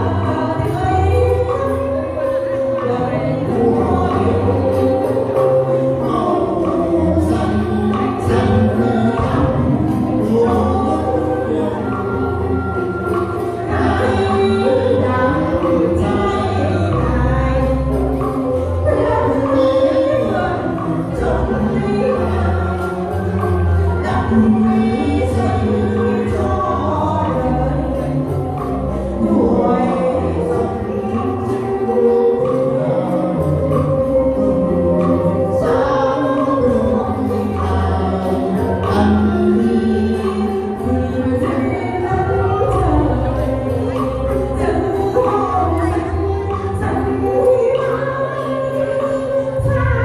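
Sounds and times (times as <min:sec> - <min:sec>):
song melody over bass: 0:00.0 - 0:50.0.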